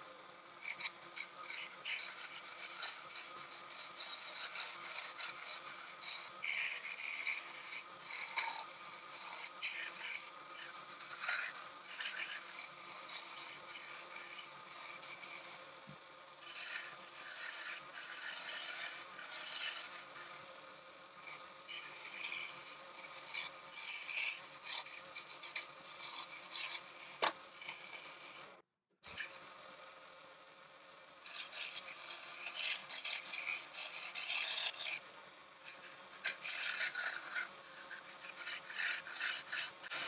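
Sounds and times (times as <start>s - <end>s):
lathe tool scraping wood: 0.6s - 15.6s, 16.4s - 20.5s, 21.2s - 28.5s, 29.2s - 29.5s, 31.2s - 35.0s, 35.6s - 40.0s.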